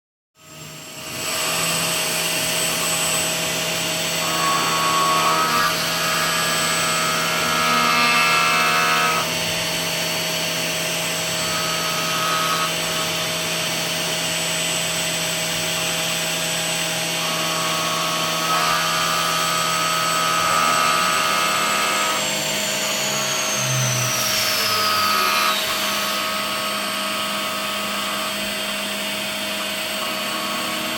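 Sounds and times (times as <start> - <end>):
high machine whine: 0.4 - 30.9.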